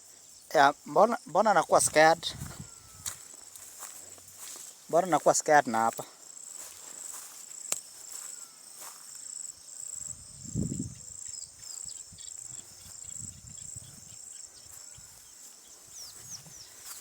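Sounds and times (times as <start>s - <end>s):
insects chirping in pulses: 0.0s - 17.0s.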